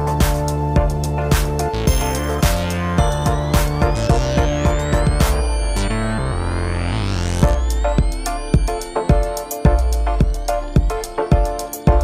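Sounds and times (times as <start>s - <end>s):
kick drum: 0.0s - 5.7s, 7.4s - 12.0s
ticking hi-hats: 0.0s - 6.1s, 7.4s - 12.0s
held synth chords: 0.0s - 12.0s.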